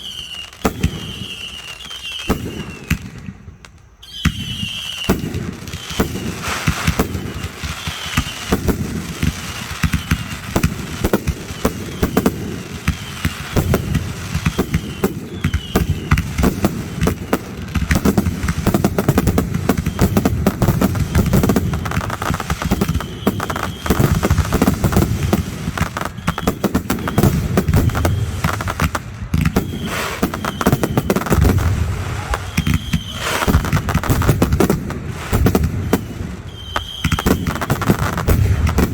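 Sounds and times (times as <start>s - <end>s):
faint firework whistles: 0.0s - 38.9s
fireworks bangs and crackles: 0.0s - 38.9s.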